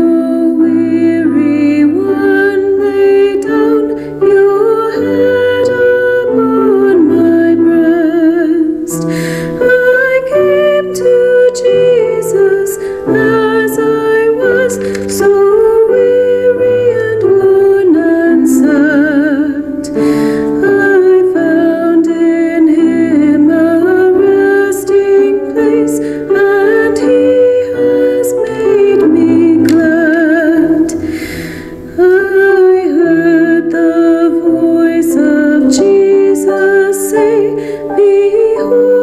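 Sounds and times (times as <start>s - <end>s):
woman singing a hymn: 0.0s - 39.0s.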